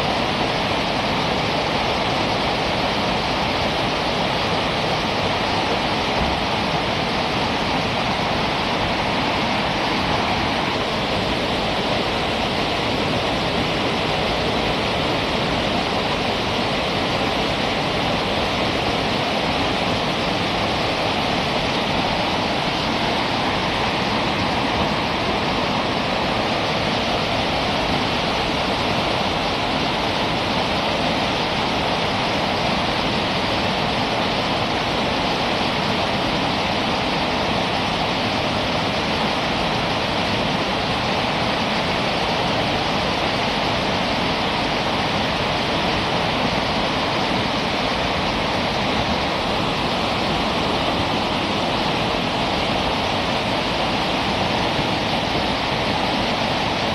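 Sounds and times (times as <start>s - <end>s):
river rapids rushing over rocks: 0.0s - 56.9s.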